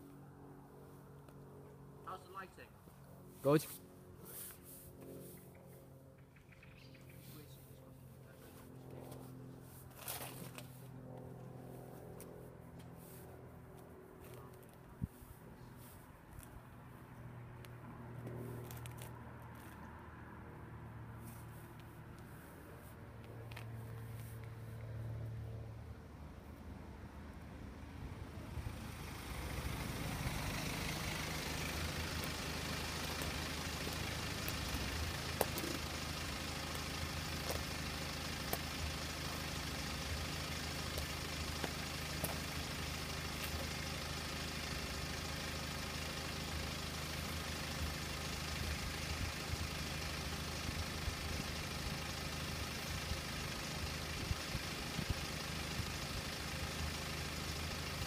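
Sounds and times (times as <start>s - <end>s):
vehicle engine idling: 0.0s - 19.8s, 20.4s - 58.0s.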